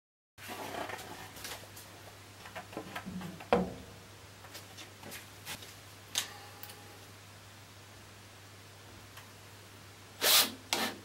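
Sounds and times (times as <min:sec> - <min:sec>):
low steady hum: 0:00.5 - 0:10.2.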